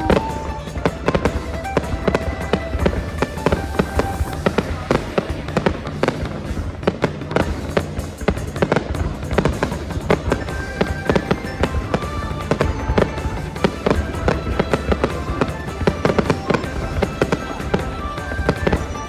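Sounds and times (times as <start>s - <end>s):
fireworks bangs: 0.0s - 19.0s
music playing: 0.0s - 19.0s.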